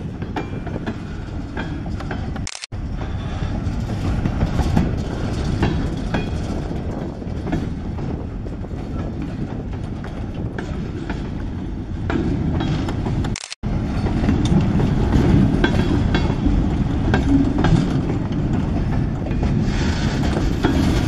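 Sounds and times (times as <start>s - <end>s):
freight cars rumbling on rail: 0.0s - 21.0s
wheels clicking over rail joints: 0.0s - 21.0s.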